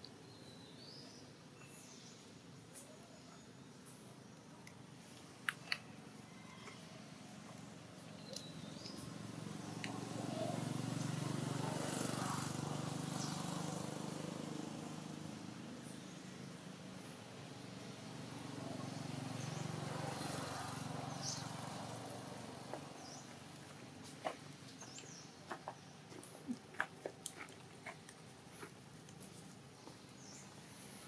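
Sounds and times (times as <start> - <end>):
low hum of vehicle engines: 0.0 - 31.0.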